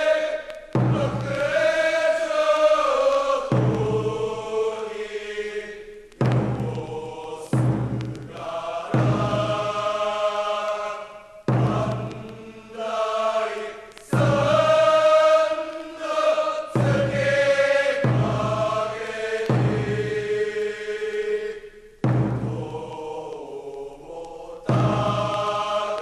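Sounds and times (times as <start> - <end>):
men singing in unison: 0.0 - 26.0.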